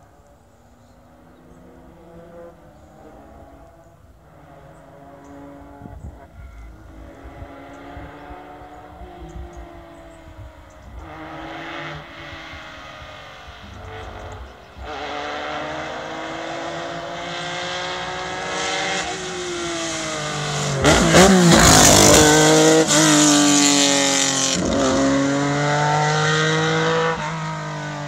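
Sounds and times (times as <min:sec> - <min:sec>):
rally car accelerating past: 0:01.5 - 0:28.0.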